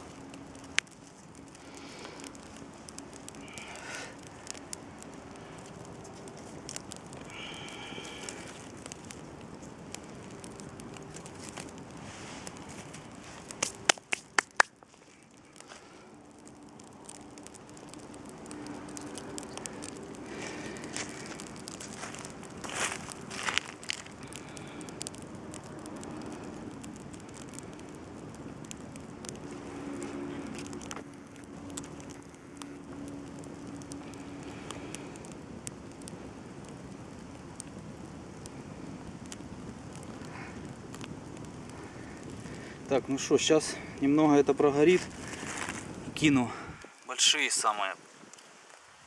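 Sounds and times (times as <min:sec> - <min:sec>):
campfire crackling: 0:00.0 - 0:49.0
fire popping: 0:00.0 - 0:49.0.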